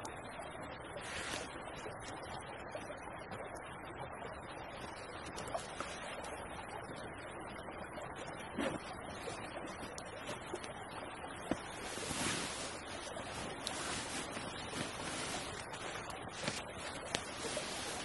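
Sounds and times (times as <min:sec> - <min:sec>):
small creek rushing: 0:00.0 - 0:18.0.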